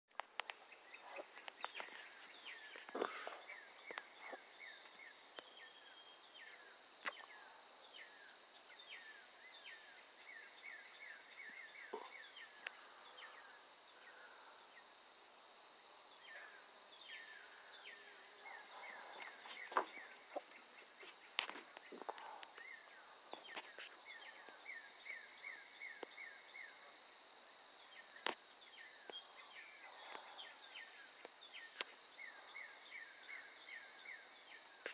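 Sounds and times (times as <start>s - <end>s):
chorus of night insects: 0.1s - 34.9s.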